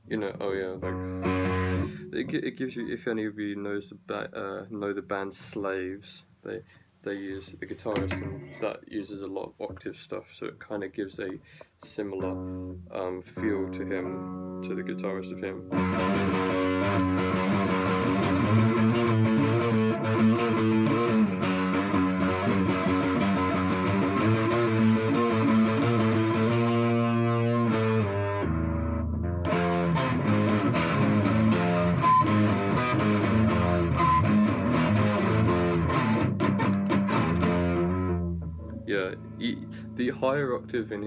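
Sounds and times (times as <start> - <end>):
electric twelve-string guitar riffs: 0.0 - 2.8, 7.9 - 8.6, 11.4 - 41.0.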